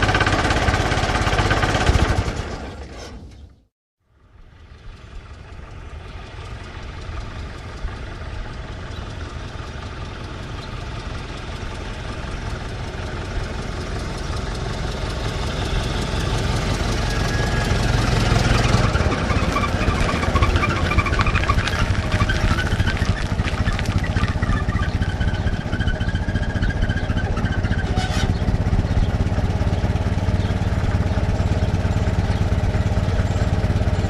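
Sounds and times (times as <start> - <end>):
car engine running: 0.0 - 2.5, 4.2 - 34.0.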